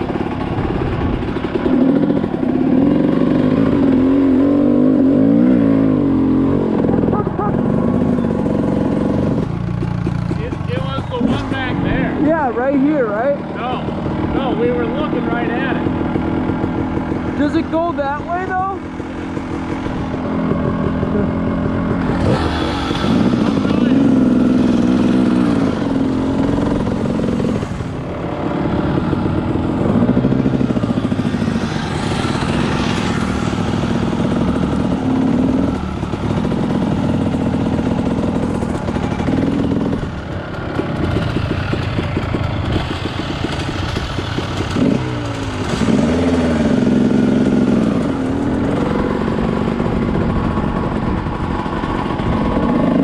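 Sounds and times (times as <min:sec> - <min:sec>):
small engine revving: 0:00.0 - 0:53.0.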